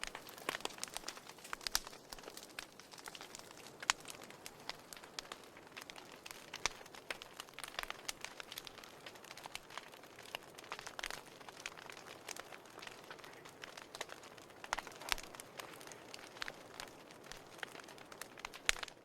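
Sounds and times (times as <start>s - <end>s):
firewood crackling and popping: 0.0s - 19.0s.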